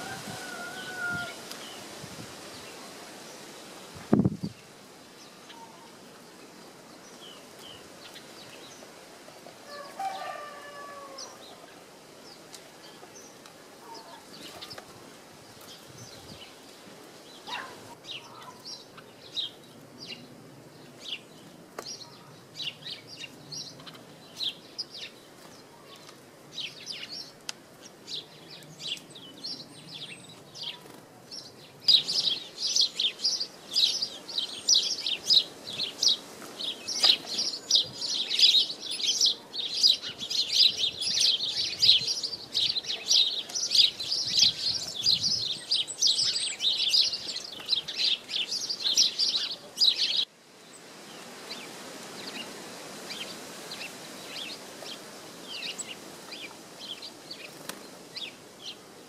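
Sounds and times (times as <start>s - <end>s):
faint wind noise: 0.0s - 59.0s
small songbirds chirping: 0.0s - 59.0s.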